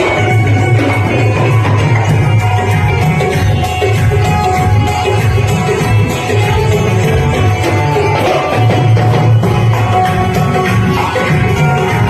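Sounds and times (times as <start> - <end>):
live band music over pa: 0.0 - 12.0.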